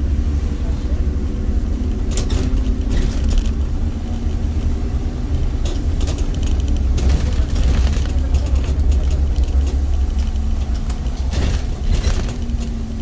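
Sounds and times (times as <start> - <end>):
bus diesel engine rumble: 0.0 - 13.0
brief rattles and knocks: 1.9 - 12.9.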